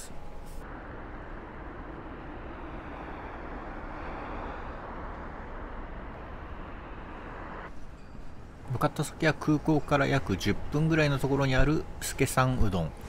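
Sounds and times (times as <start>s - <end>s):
moving vehicle rumble and hiss: 0.0s - 13.0s.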